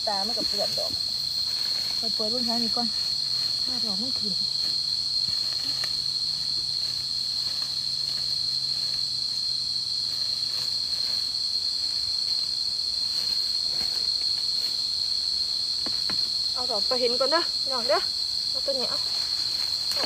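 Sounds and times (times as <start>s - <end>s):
insects buzzing: 0.0s - 20.0s
rustling dry leaf litter: 0.0s - 20.0s.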